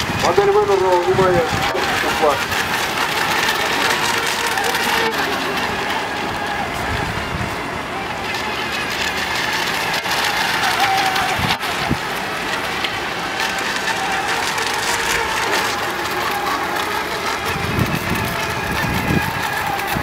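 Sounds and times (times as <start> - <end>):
low rumbling: 0.0 - 20.0
rc boat motor whine: 0.0 - 20.0.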